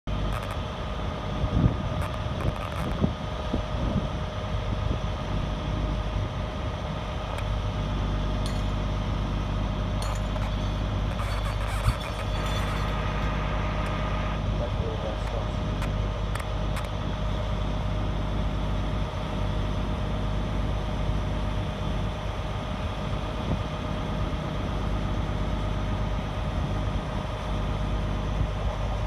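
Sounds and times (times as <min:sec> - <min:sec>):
engine drone with whine: 0:00.0 - 0:29.0.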